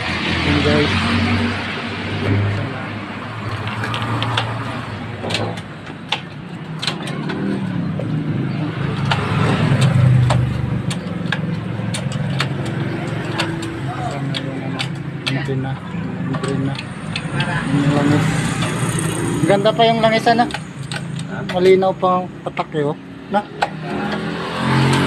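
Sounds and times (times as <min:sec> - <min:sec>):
sharp metallic clicks and taps: 0:03.4 - 0:25.0.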